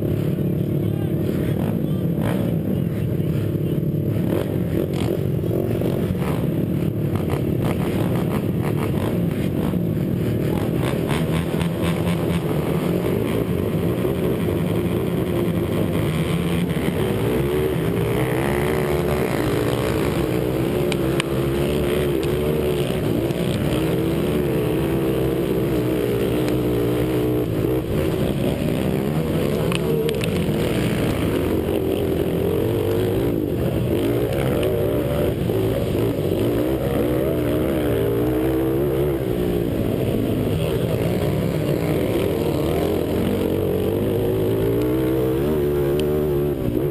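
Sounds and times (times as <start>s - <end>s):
other quad engines: 0.0s - 46.9s
quad engine racing: 0.0s - 46.9s.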